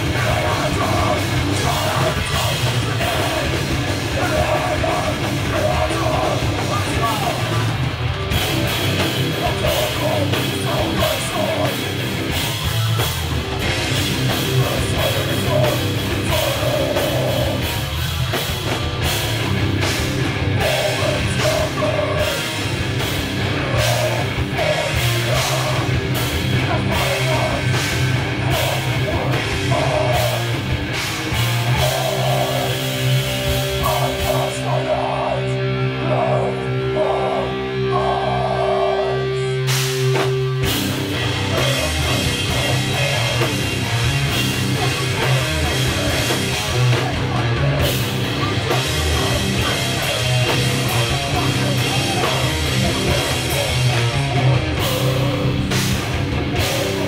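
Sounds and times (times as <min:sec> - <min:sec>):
bass guitar: 0:00.0 - 0:57.0
distorted electric guitars: 0:00.0 - 0:57.0
pounding drum kit: 0:00.0 - 0:57.0.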